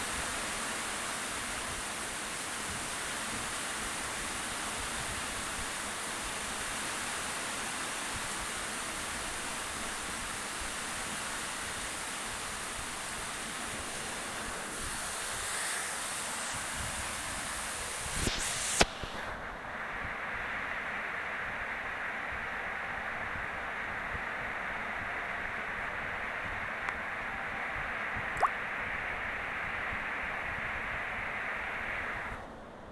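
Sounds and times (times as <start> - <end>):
steady background hiss: 0.0 - 32.9.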